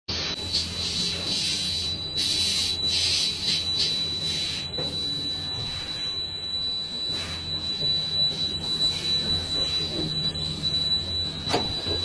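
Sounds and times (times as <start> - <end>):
high-pitched machine whine: 0.1 - 12.0.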